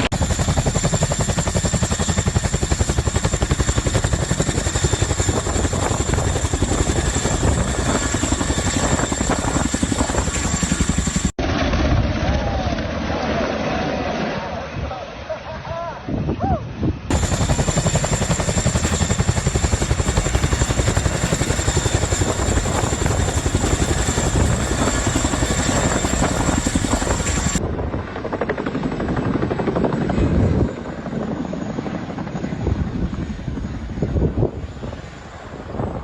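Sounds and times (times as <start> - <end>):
helicopter rotor beating: 0.0 - 14.4, 17.1 - 36.0.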